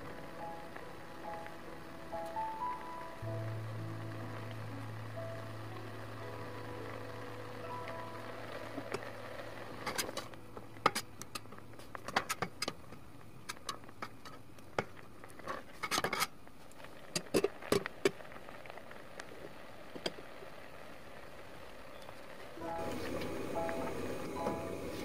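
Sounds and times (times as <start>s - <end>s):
jam bubbling: 0.0s - 25.0s.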